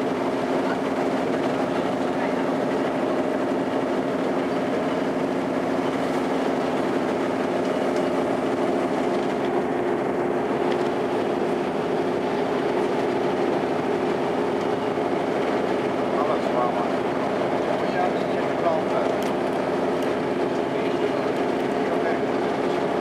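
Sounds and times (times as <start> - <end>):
boat engine humming: 0.0 - 23.0
water rushing: 0.0 - 23.0.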